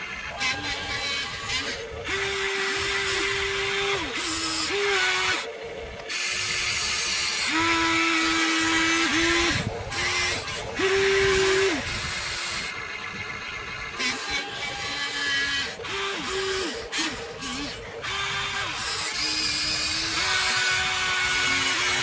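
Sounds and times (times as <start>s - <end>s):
toy electric motors whining: 0.0s - 22.0s.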